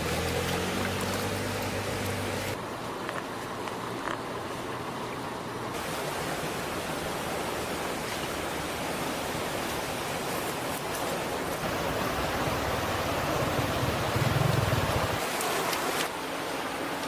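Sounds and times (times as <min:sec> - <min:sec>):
river water rushing: 0:00.0 - 0:02.8, 0:04.4 - 0:17.0.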